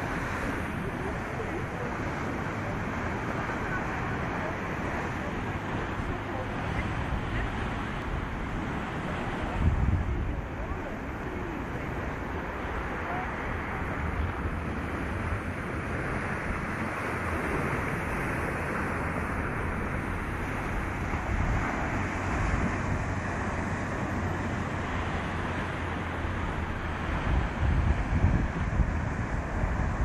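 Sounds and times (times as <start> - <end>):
surf washing on shore: 0.0 - 30.0
wind buffeting microphone: 0.0 - 30.0.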